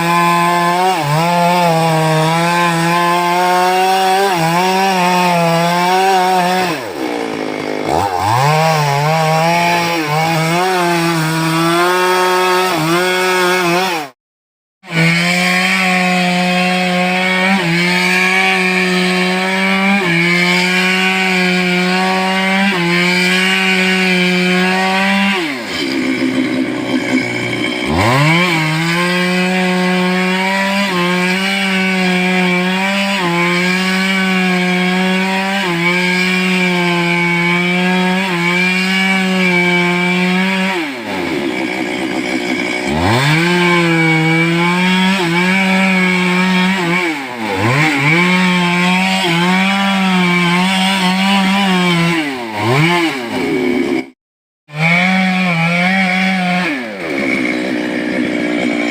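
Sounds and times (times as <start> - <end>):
chainsaw cutting wood: 0.0 - 14.2, 14.8 - 58.9.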